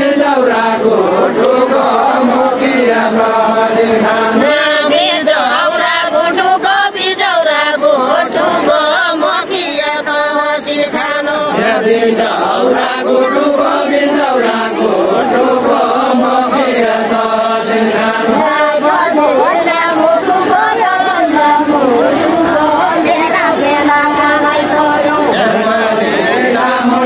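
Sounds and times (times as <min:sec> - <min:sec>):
group singing folk song: 0:00.0 - 0:27.0.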